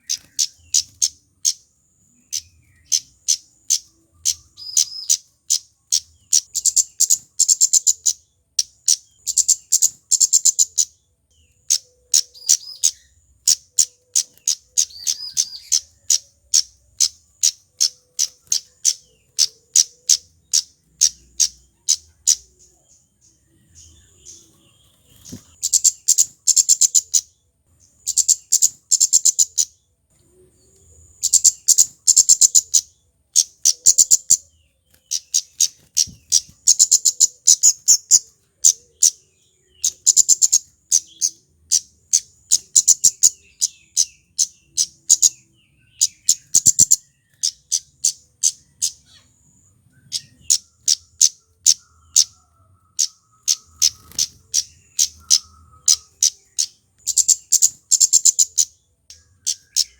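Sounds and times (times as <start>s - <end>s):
bird rapid chattering: 0.0s - 1.6s, 2.2s - 11.0s, 11.6s - 22.8s, 23.8s - 27.4s, 28.0s - 29.8s, 31.2s - 45.4s, 46.0s - 49.4s, 50.0s - 59.9s.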